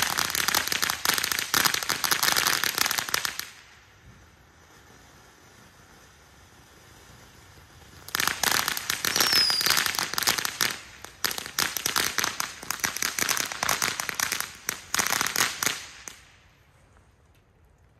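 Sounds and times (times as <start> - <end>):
fireworks crackling: 0.0 - 17.9.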